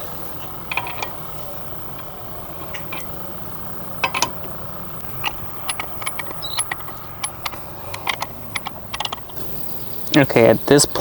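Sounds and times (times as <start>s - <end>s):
wrench clicking on lug nut: 0.0s - 11.0s.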